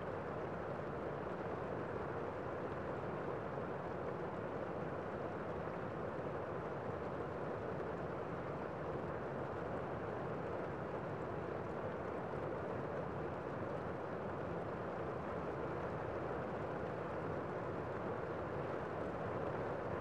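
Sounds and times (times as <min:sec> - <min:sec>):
rain on a window: 0:00.0 - 0:20.0.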